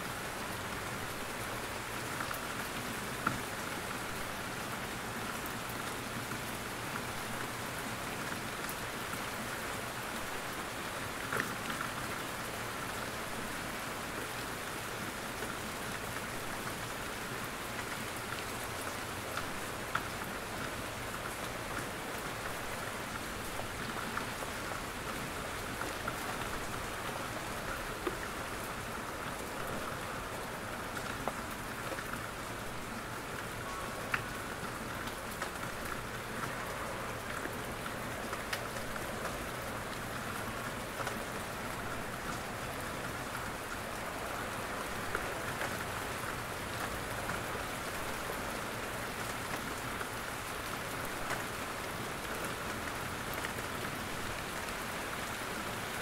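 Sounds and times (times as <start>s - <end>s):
rain falling in a forest: 0.0s - 56.0s.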